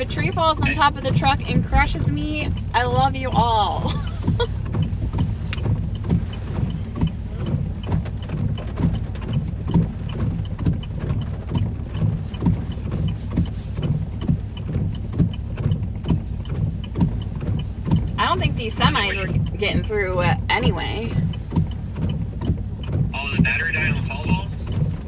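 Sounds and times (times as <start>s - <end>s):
faint regular ticking: 0.0s - 25.0s
truck engine idling: 0.0s - 25.0s.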